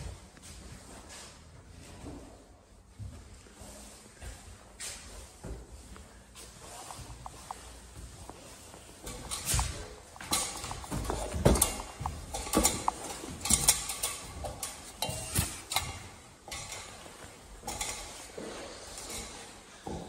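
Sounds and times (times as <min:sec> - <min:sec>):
footsteps on metal ladder rungs: 0:00.0 - 0:20.0.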